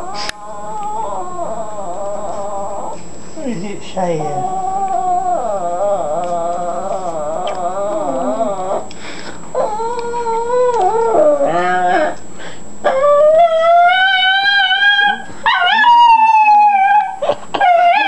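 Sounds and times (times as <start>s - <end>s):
small dog howling: 0.0s - 3.0s, 4.4s - 8.9s, 9.6s - 12.2s, 12.8s - 18.0s.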